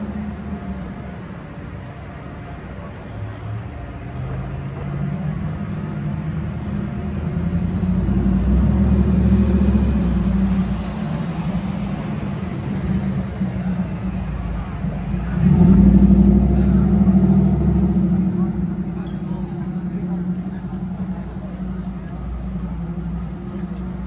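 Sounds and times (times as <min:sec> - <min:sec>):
vehicle engine passing: 0:00.0 - 0:24.0.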